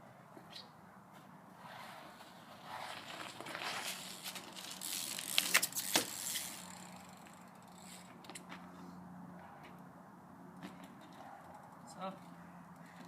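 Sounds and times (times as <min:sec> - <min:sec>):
bike rolling and rattling: 0:00.5 - 0:13.0.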